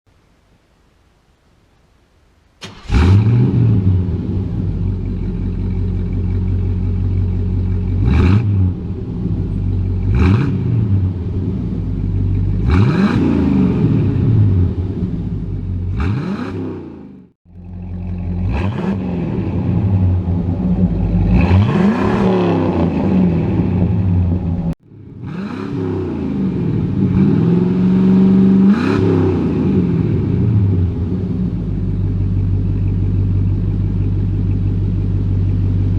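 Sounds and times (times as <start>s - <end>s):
engine revving: 2.6s - 34.7s
truck engine starting and idling: 2.6s - 35.9s.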